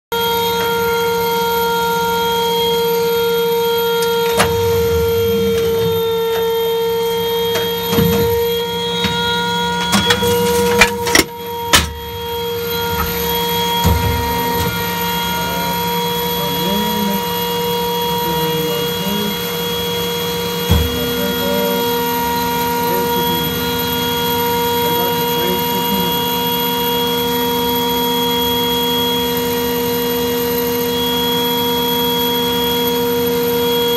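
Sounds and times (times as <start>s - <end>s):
whining hum of turret systems: 0.1s - 33.9s
low hum: 0.2s - 33.9s.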